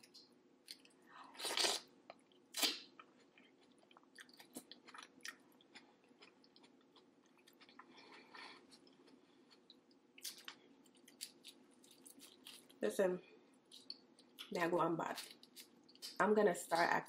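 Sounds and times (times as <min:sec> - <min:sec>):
wet chewing and mouth smacking: 0:00.1 - 0:12.8, 0:13.7 - 0:14.5, 0:15.2 - 0:16.2.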